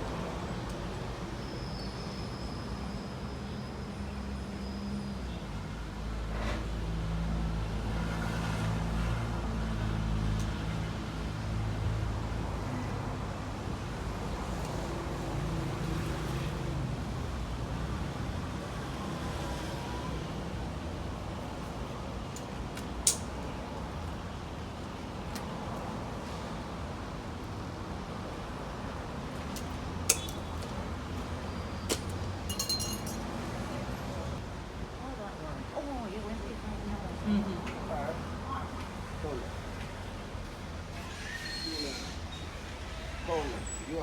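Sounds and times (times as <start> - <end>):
low traffic hum: 0.0 - 44.0.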